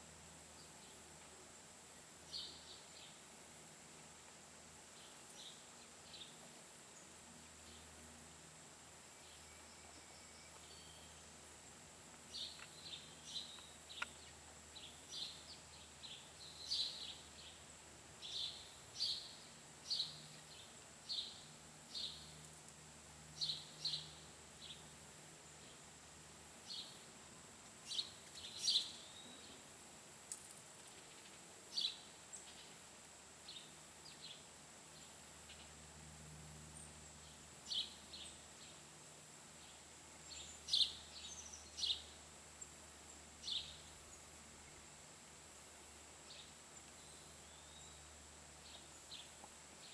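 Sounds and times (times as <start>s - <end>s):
faint high-pitched whine: 0.0s - 49.9s.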